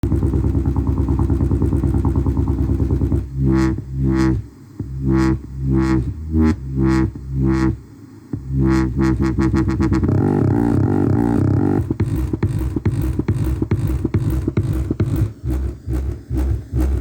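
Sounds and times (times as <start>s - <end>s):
bass-heavy electronic music: 0.0s - 17.0s.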